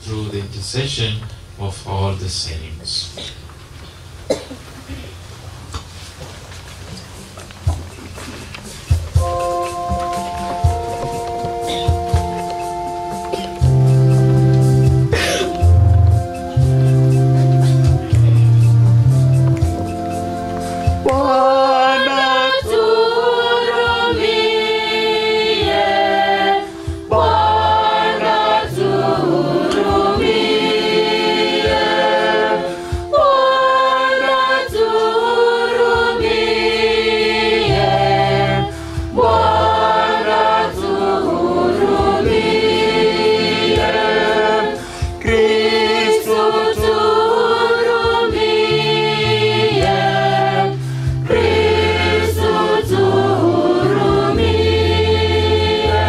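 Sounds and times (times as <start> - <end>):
low accompaniment: 7.0 - 56.0
choir singing a hymn: 9.1 - 56.0.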